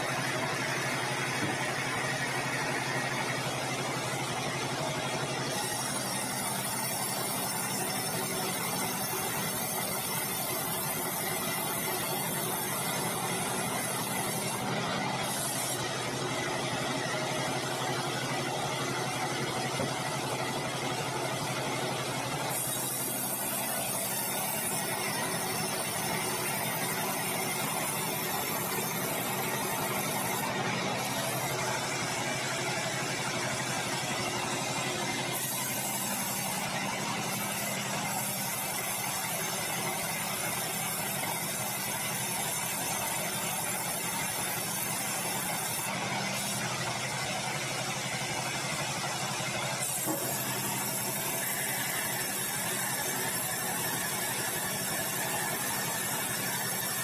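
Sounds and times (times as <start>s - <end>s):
band saw sawing a log: 0.0s - 57.0s.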